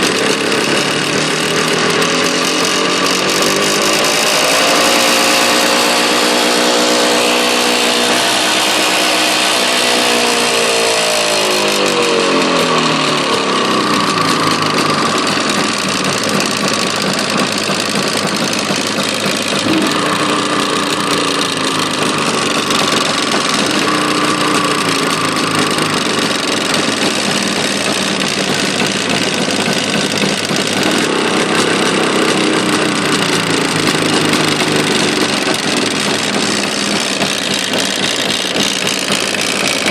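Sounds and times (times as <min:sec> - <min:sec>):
motorcycle engine knocking: 0:00.0 - 0:39.9.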